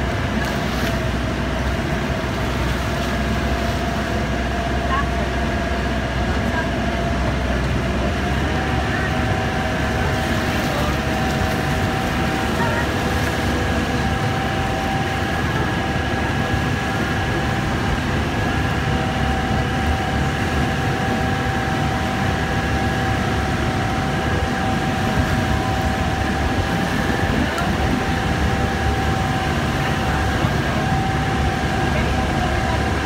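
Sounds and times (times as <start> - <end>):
boat engine whining: 0.0 - 33.0
churning river: 0.0 - 33.0.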